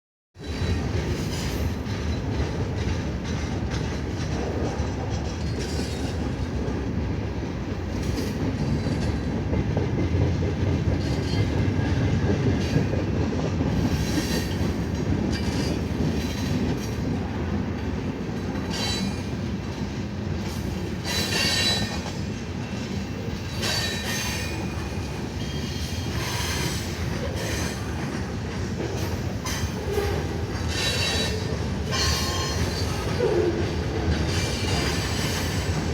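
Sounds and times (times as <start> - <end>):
train wheels rumbling on rails: 0.4 - 35.9.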